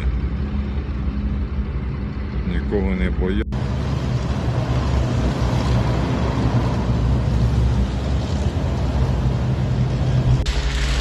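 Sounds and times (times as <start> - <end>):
military vehicle engines rumbling: 0.0 - 11.0.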